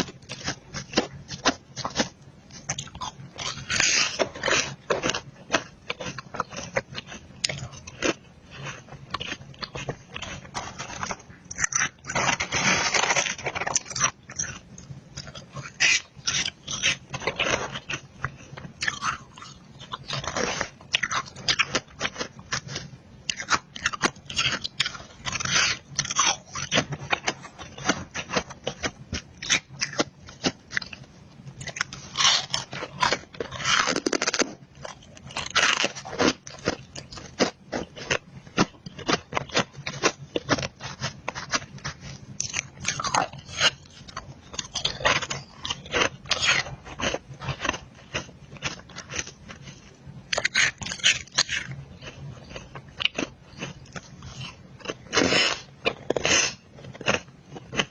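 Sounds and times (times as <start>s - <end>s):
chewing crunchy frost: 0.0s - 57.9s.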